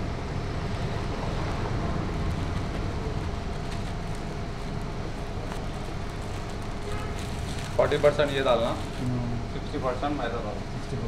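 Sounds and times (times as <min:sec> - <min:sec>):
faint steady hum: 0:00.0 - 0:11.0
low rumbling background noise: 0:00.0 - 0:11.0.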